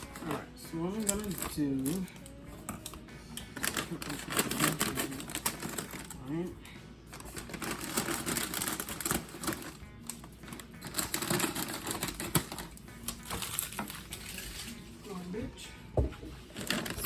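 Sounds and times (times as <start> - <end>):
snack bags crinkling: 0.0 - 6.2, 7.2 - 15.0.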